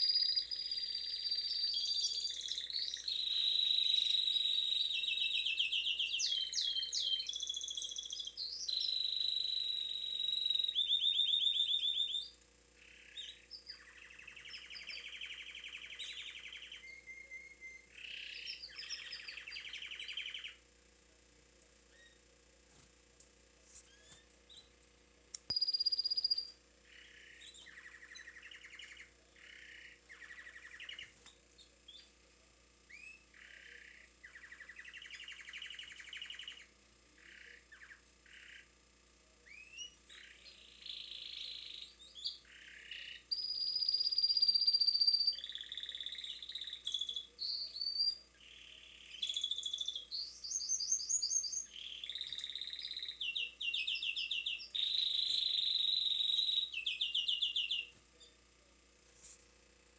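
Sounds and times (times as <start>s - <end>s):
canary singing trills and whistles: 0.0s - 20.6s, 21.9s - 22.2s, 25.4s - 32.1s, 32.9s - 38.7s, 39.4s - 58.3s.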